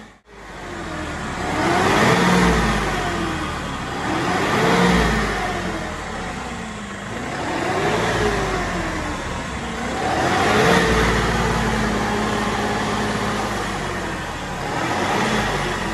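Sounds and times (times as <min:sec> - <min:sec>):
tractor diesel engine revving: 0:00.0 - 0:15.9.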